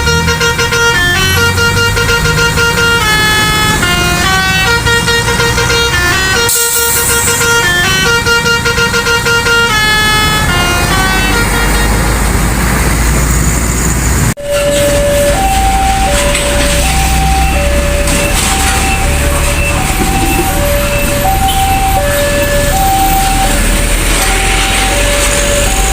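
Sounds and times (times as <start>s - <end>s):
multi-tone air horn melody: 0.0s - 12.2s, 14.4s - 25.9s
bus engine running: 0.0s - 25.9s.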